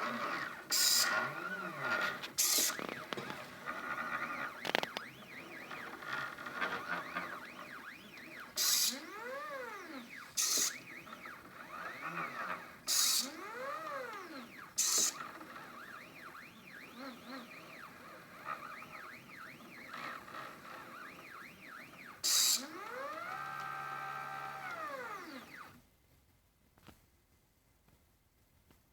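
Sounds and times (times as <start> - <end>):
stepper motors whining: 0.0 - 25.8.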